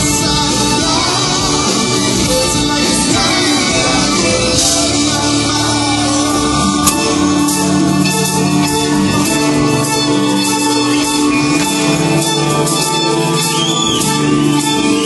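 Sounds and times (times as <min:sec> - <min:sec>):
rock band with violins: 0:00.0 - 0:15.0.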